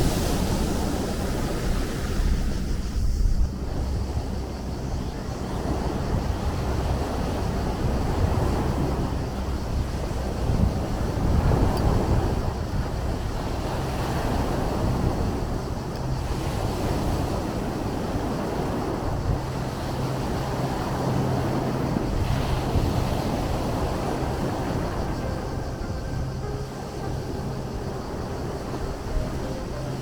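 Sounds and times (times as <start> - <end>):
sea waves surging: 0.0 - 30.0
wind noise on microphone: 0.0 - 30.0.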